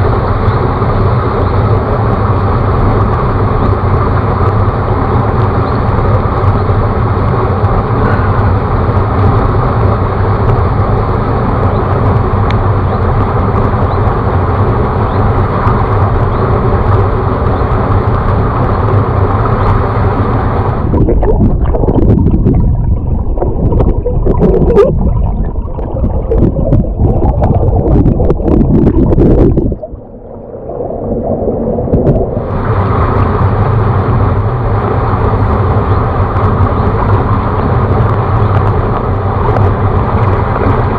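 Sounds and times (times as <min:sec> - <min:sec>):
muffled underwater gurgling: 0:00.0 - 0:40.9.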